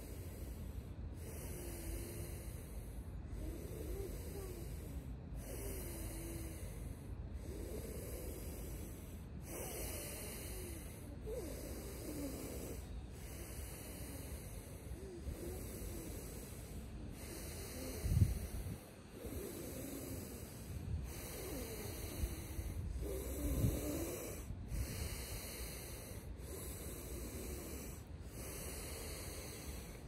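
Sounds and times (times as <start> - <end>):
deep rhythmic breathing: 0.0 - 30.0.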